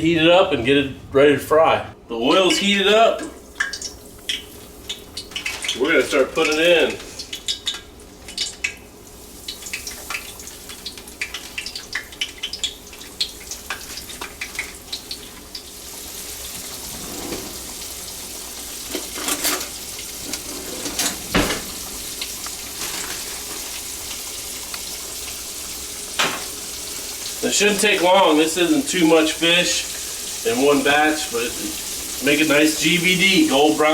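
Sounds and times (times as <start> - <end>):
fish frying in hot oil: 3.4 - 20.5, 21.3 - 33.9.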